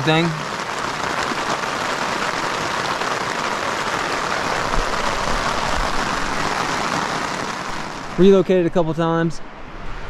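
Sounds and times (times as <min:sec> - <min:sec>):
rain pattering on fabric canopy: 0:00.0 - 0:09.3.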